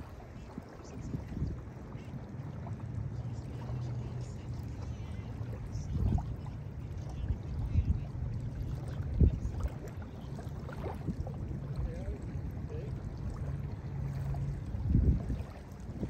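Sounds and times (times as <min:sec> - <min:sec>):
low rumble: 0:00.0 - 0:16.0
water splashes: 0:00.0 - 0:16.0
waves lapping on sandy shore: 0:00.0 - 0:16.0.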